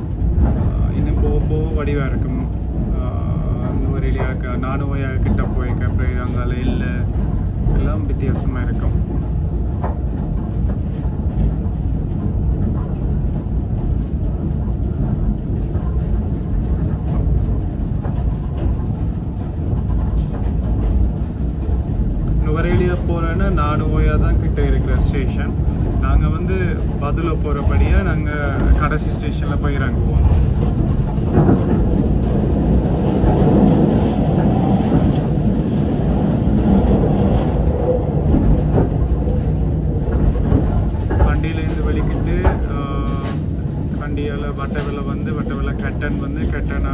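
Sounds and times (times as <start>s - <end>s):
train rumble and rattle: 0.0s - 46.9s.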